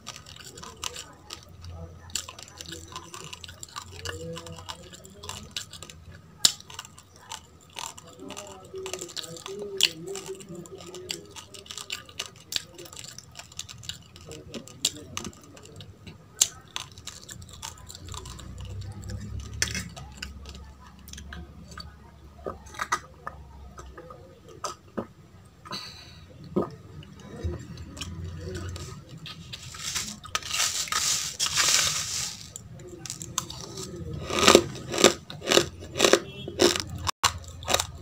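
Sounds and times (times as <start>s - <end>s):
chewing and crunching: 0.0s - 25.6s, 26.4s - 38.0s.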